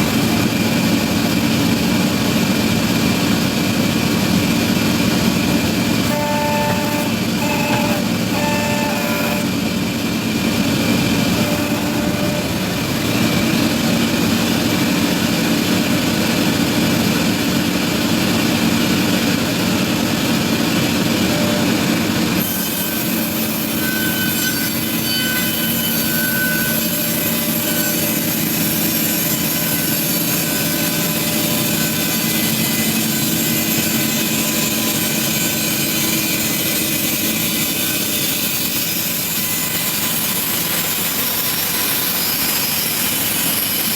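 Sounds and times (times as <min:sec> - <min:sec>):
machine with high whining tones: 0:00.0 - 0:43.9
sawmill machinery sawing wood: 0:00.0 - 0:43.9.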